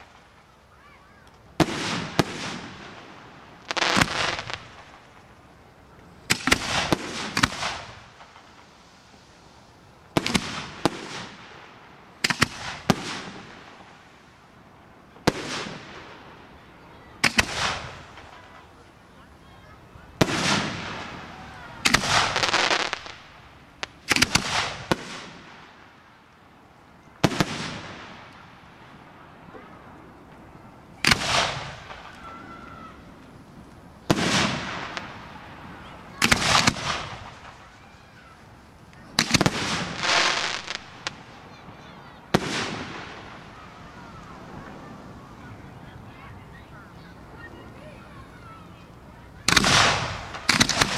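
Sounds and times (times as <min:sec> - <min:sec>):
fireworks bursting with sharp bangs: 0:00.0 - 0:50.9.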